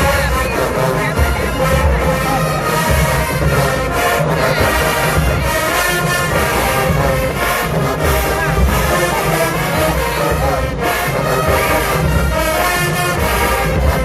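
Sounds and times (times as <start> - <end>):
marching band playing: 0.0 - 14.0.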